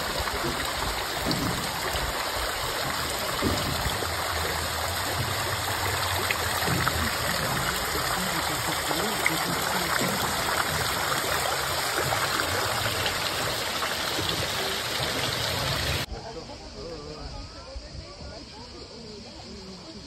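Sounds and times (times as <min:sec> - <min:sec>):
water dripping into a lake: 0:00.0 - 0:16.1.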